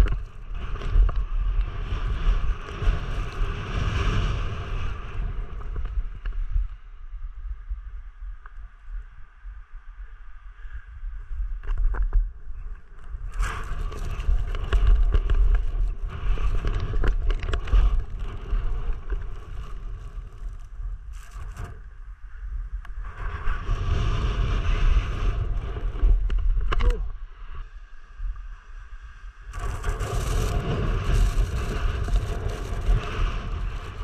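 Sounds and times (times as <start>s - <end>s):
wind buffeting microphone: 0.0s - 27.4s, 29.4s - 34.0s.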